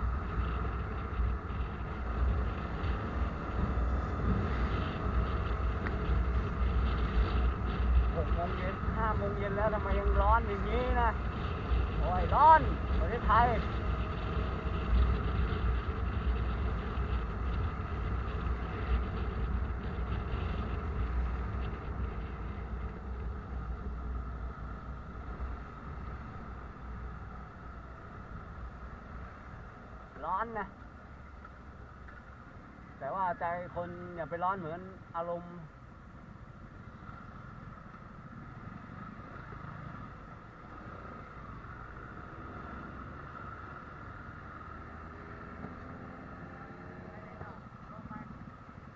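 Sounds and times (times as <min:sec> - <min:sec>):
constant hiss: 0:00.0 - 0:48.9
moving vehicle rumble: 0:00.0 - 0:48.9.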